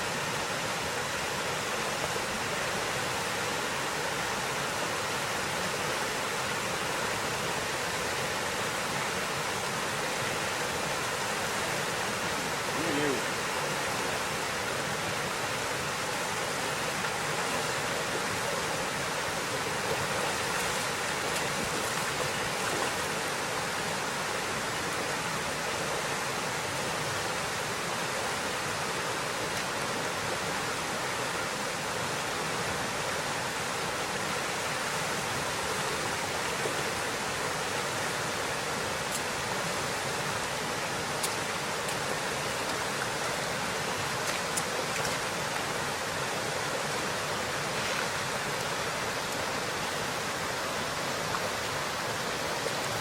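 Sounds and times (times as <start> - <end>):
river water rushing: 0.0 - 53.0.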